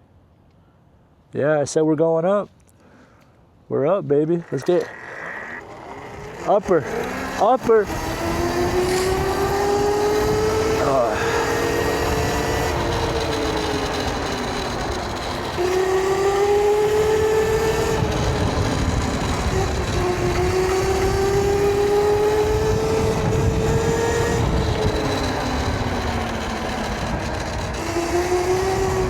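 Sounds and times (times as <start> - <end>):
electric motor whining: 4.4 - 29.0.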